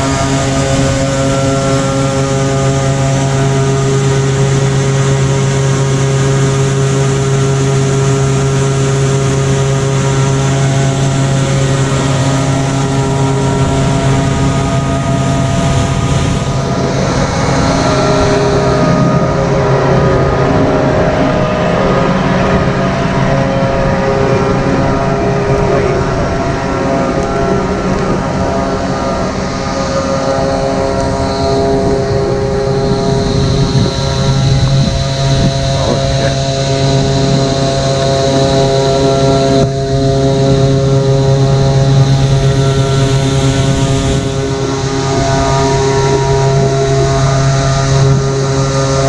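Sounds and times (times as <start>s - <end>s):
machinery engine droning: 0.0s - 49.0s.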